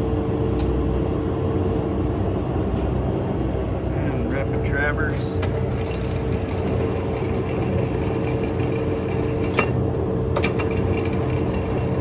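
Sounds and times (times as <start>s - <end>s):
lathe motor hum and whine: 0.0s - 12.0s.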